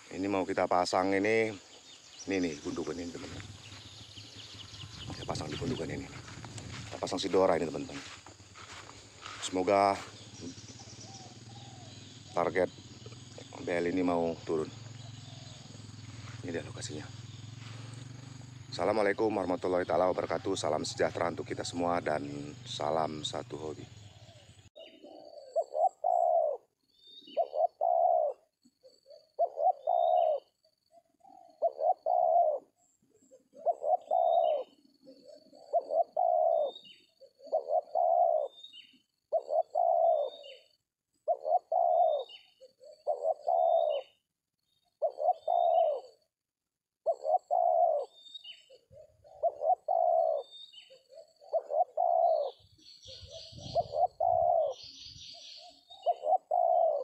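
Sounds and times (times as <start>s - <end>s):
dove cooing: 0.0s - 44.3s, 44.9s - 46.3s, 47.0s - 57.0s
faint high bird chirps: 0.0s - 46.2s, 47.1s - 57.0s.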